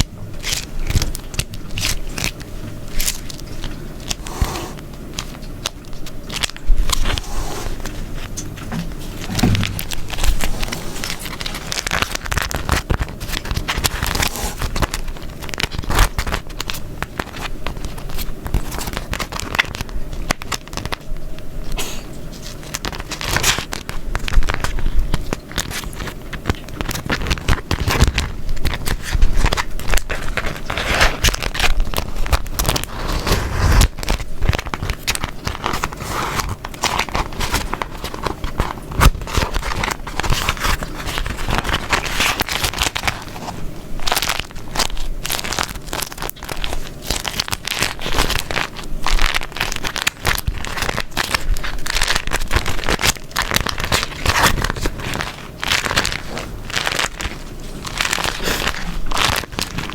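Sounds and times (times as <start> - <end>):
wax wrap crinkling: 0.0 - 59.9.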